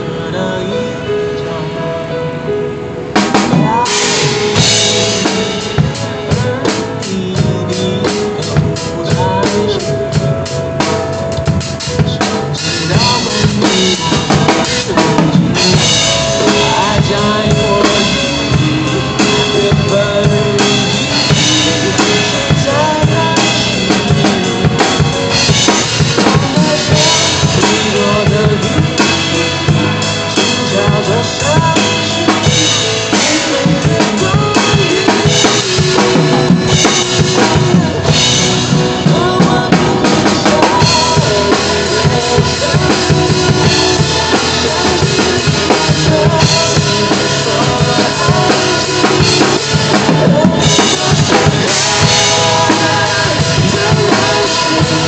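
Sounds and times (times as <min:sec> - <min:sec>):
recorded pop song: 0:00.0 - 0:55.0
drum kit groove: 0:02.8 - 0:55.0.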